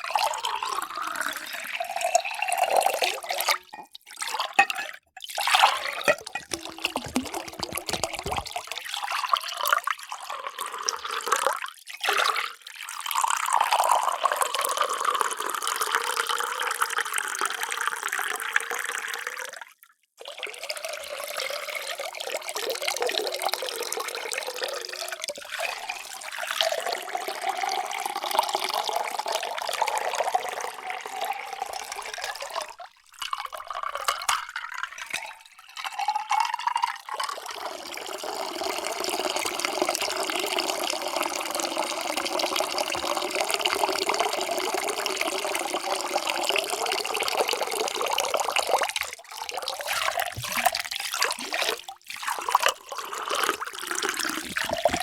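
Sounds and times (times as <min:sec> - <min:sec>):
water pouring into a vessel: 0:00.0 - 0:55.0.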